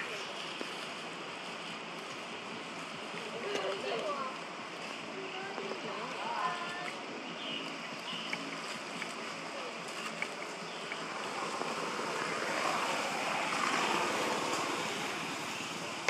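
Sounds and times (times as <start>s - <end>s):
rushing outdoor noise: 0.0s - 16.0s.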